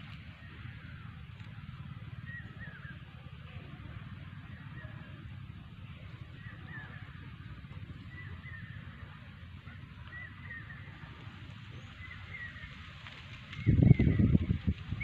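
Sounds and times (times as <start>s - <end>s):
low rumble on microphone: 0.0s - 15.0s.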